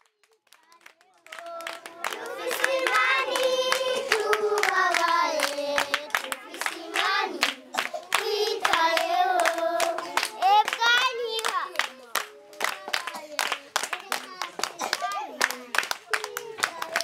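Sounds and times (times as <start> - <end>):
hands clapping along: 0.0 - 17.0
children singing: 1.3 - 17.0.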